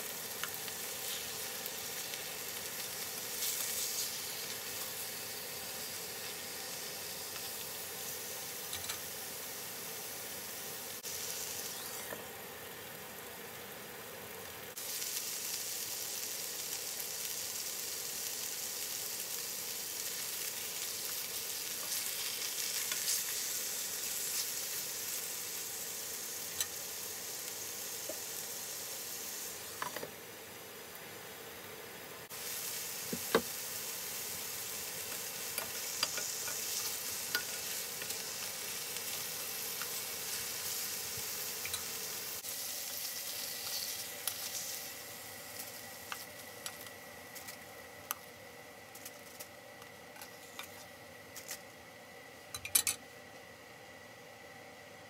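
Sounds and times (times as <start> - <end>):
chicken sizzling in a pan: 0.0 - 51.7.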